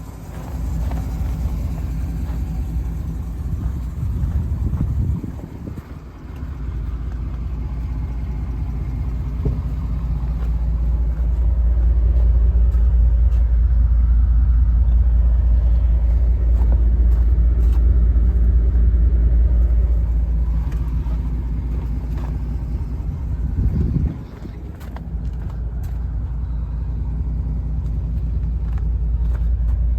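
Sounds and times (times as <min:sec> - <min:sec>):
engine running with low rumble: 0:00.0 - 0:29.9.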